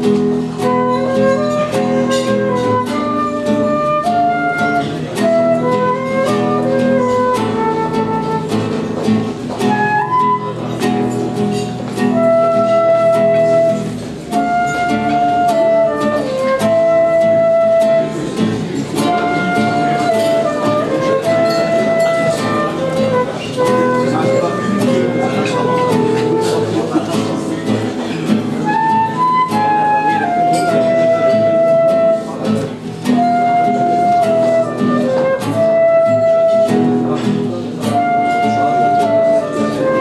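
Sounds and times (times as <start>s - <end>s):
classical guitar playing chords: 0.0s - 40.0s
flute-like melody: 0.0s - 40.0s.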